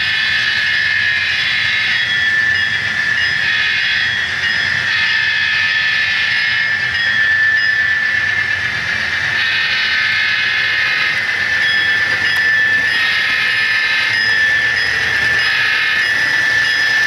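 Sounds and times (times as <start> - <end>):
model train diesel engine sound: 0.0 - 17.0
steady high whine: 0.0 - 17.0.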